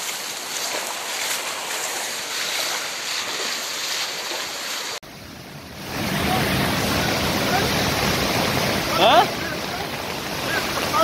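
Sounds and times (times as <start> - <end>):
floodwater rushing over road: 0.0 - 11.0.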